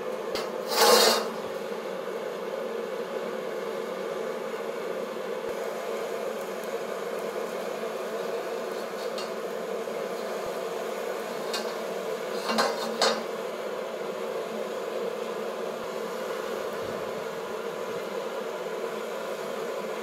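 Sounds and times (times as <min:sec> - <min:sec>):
jet burner flame roar: 0:00.0 - 0:20.0.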